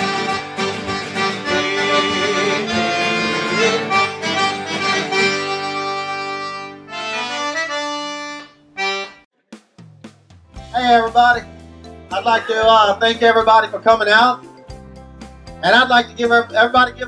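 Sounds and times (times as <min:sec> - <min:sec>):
accordion music: 0:00.0 - 0:09.3, 0:10.8 - 0:17.0.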